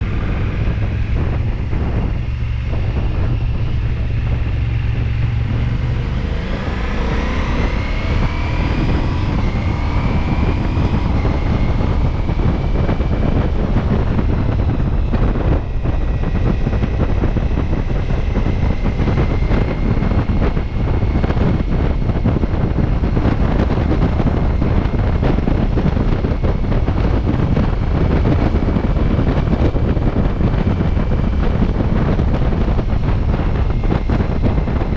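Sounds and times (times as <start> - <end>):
motorcycle engine accelerating: 0.0 - 34.9
wind noise on microphone: 0.0 - 34.9.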